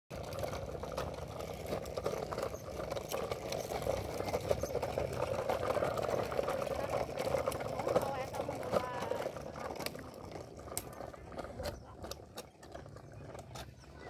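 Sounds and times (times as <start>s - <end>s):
plastic wheels rolling on asphalt: 0.1s - 14.0s.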